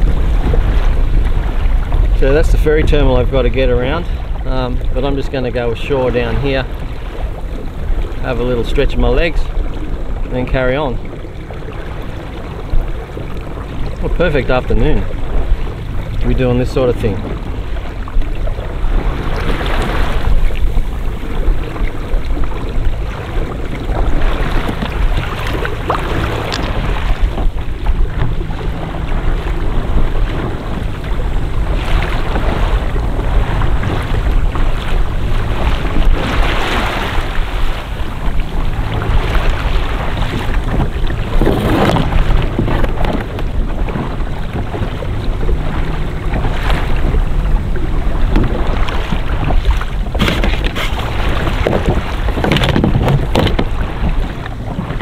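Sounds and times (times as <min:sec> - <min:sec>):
loud paddle splashes: 0:00.0 - 0:55.0
water lapping around kayak: 0:00.0 - 0:55.0
wind rumbling on microphone: 0:00.0 - 0:55.0.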